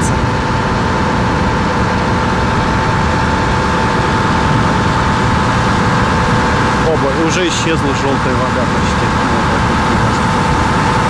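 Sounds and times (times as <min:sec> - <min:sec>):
motor boat engine droning: 0:00.0 - 0:11.0.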